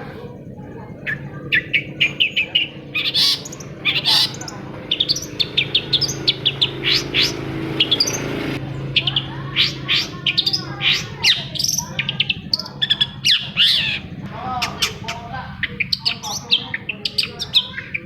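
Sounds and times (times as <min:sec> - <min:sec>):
low steady hum: 0:00.0 - 0:18.0
bird singing sharp chirps: 0:00.6 - 0:18.0.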